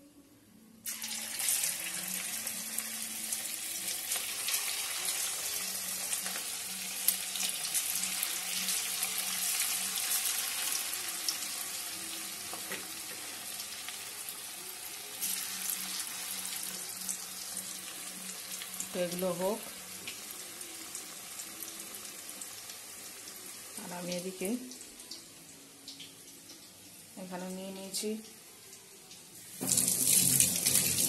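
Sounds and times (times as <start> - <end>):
chicken deep-frying in oil: 0.8 - 25.2, 29.5 - 31.0.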